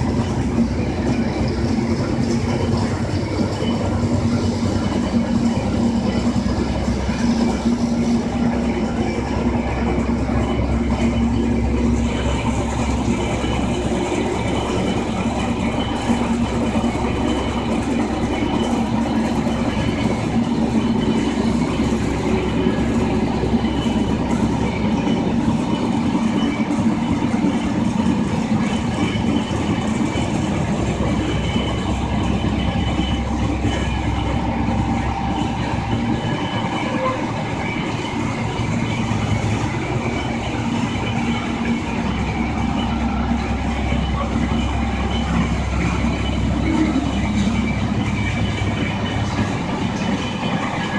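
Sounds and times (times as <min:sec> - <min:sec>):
diesel railcar engine hum: 0:00.0 - 0:50.9
faint rail clatter: 0:00.0 - 0:50.9.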